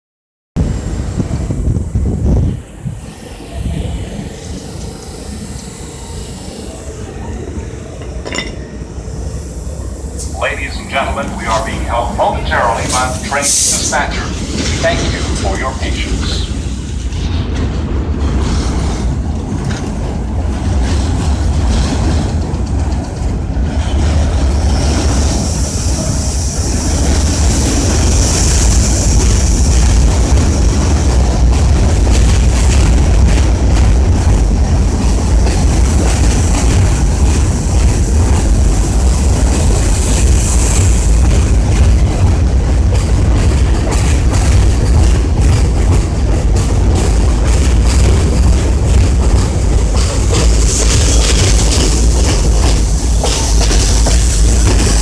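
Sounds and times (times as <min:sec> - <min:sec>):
subway train rumble: 0:00.6 - 0:55.0.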